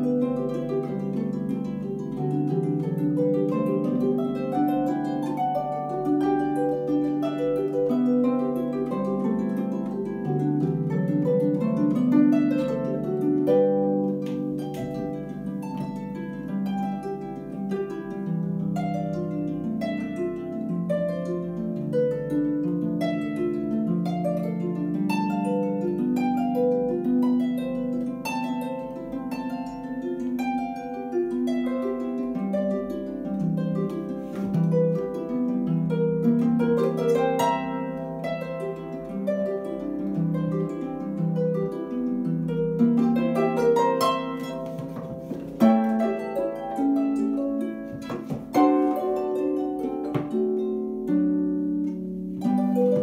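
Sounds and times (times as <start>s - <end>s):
solo harp playing: 0.0s - 53.0s.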